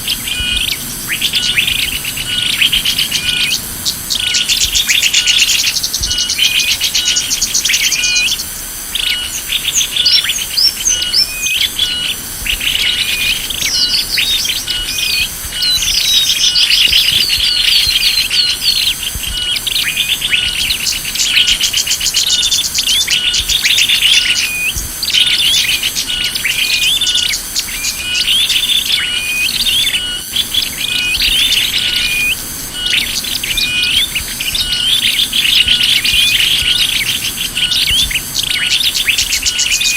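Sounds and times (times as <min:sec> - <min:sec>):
high pulsing background: 0:00.0 - 0:39.9
small birds chirping and trilling: 0:00.0 - 0:39.9.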